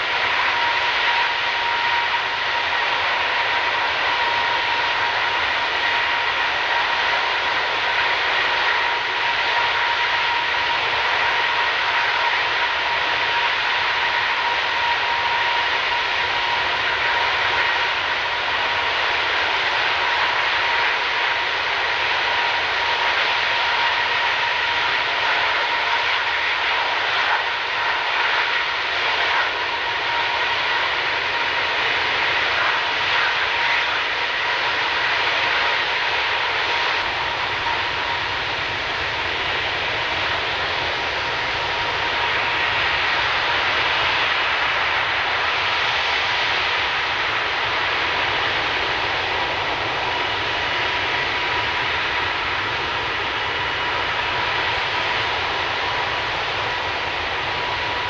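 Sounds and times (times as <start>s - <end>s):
engine whine: 0.0s - 58.0s
jet engines at high power: 0.0s - 58.0s.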